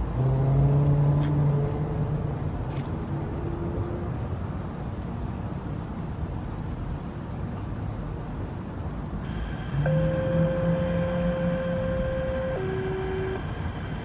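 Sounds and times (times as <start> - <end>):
traffic hum: 0.0 - 14.0
vehicle engine drone: 0.0 - 14.0.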